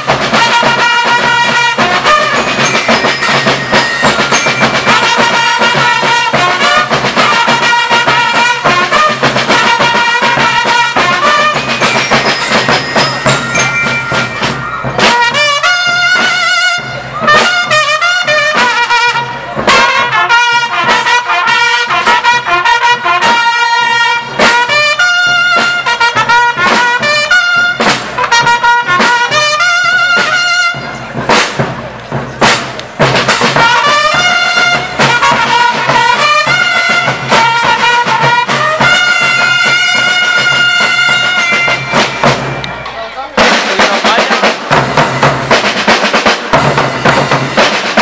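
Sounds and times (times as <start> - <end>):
bass drum: 0.0 - 23.6, 24.3 - 42.7, 43.4 - 48.0
cymbals: 0.0 - 48.0
snare drums: 0.0 - 48.0
trumpets and trombones: 0.0 - 48.0.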